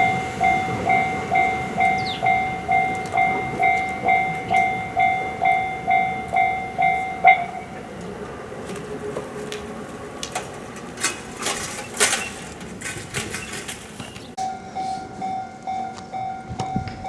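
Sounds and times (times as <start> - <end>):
train wheels clattering on rails: 0.0 - 14.4
level-crossing warning bell: 0.0 - 17.0.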